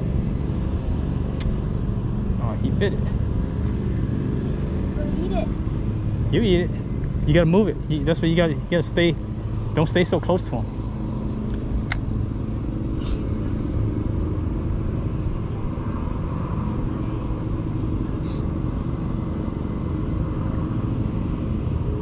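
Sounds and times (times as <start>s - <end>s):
constant hum: 0.0s - 22.0s
low mechanical rumble: 0.0s - 22.0s.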